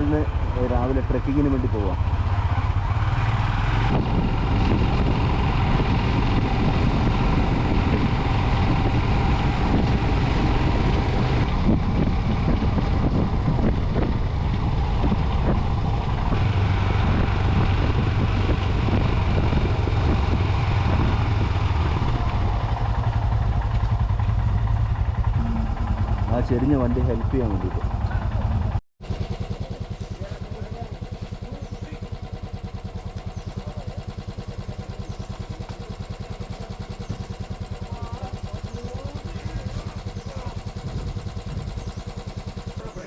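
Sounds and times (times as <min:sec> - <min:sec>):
motorcycle engine running: 0:00.0 - 0:43.0
road noise: 0:00.0 - 0:43.0.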